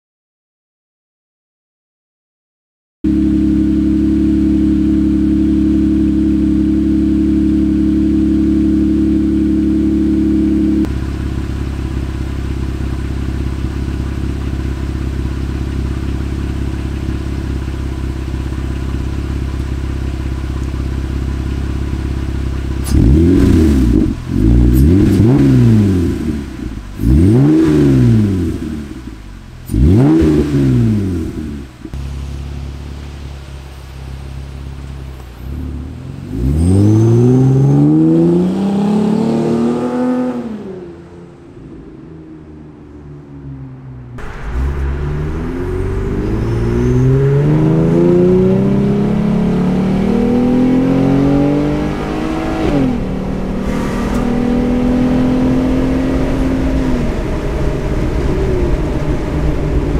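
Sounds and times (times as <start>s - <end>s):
car engine idling: 3.1s - 59.9s
car engine revving: 3.1s - 59.9s.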